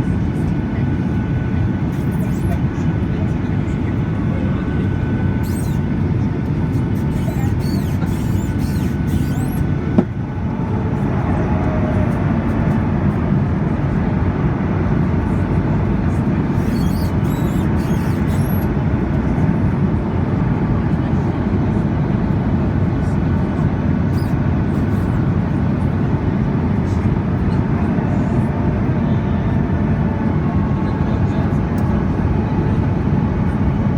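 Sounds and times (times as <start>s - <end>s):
airliner engines and rushing air: 0.0s - 33.9s.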